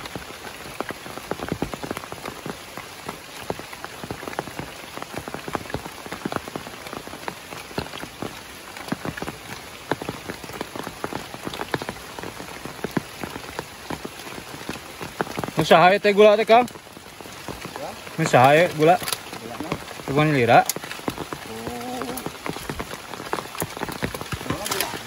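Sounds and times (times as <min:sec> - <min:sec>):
heavy rain falling: 0:00.0 - 0:25.0
raindrops clicking: 0:00.0 - 0:25.0.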